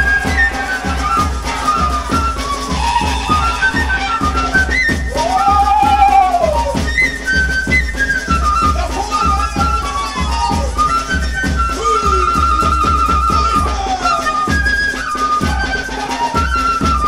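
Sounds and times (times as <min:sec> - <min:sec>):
high melody: 0:00.0 - 0:16.5
steady drum beat: 0:00.0 - 0:17.0.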